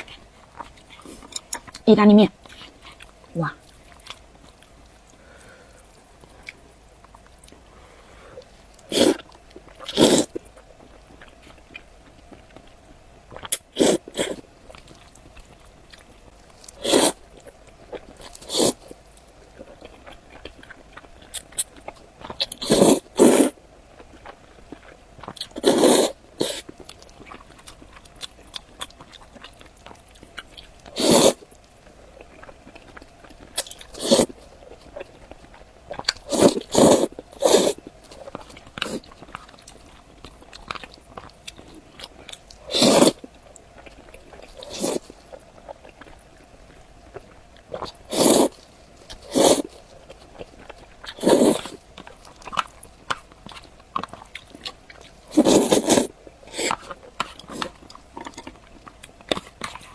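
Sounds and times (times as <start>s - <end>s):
biting and chewing food: 0.0s - 59.9s.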